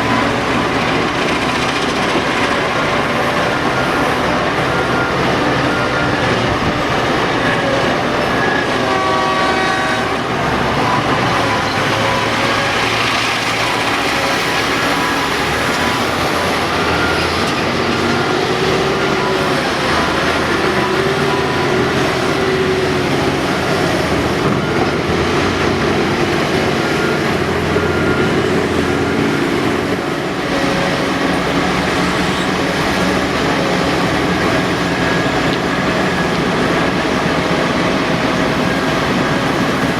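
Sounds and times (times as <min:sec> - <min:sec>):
excavator engine and hydraulics: 0:00.0 - 0:39.9.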